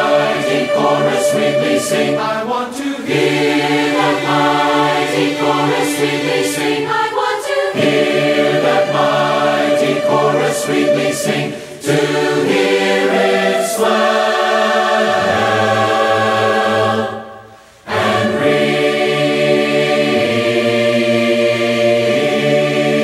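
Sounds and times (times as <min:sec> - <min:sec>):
choir singing a hymn: 0:00.0 - 0:23.0.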